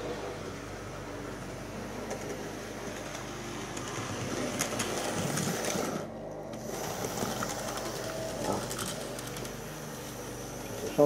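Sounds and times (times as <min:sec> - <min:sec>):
model train motor humming: 0:00.0 - 0:11.0
wheels clicking over rail joints: 0:00.0 - 0:11.0.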